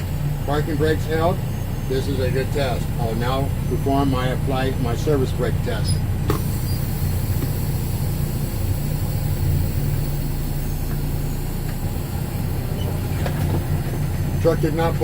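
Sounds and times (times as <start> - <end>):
diesel truck engine humming: 0.0 - 15.0.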